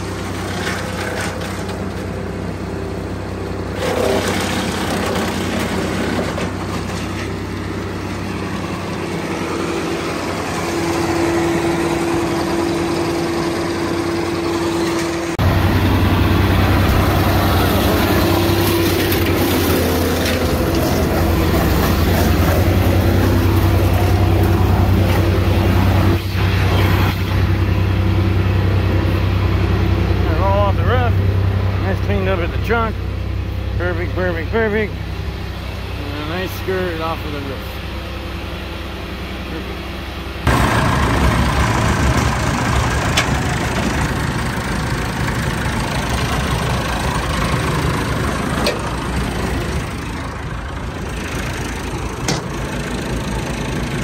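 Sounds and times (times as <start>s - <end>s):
brush chipper engine running: 0.0s - 54.0s.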